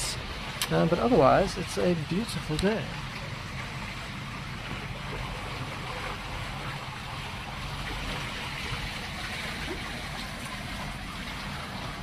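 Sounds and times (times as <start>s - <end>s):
low steady hum: 0.0s - 12.0s
water rushing along hull: 0.0s - 12.0s.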